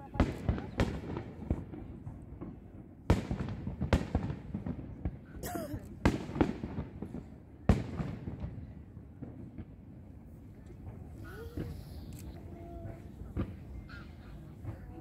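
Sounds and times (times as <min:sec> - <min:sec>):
fireworks bursting in booms: 0:00.0 - 0:11.9, 0:12.9 - 0:15.0.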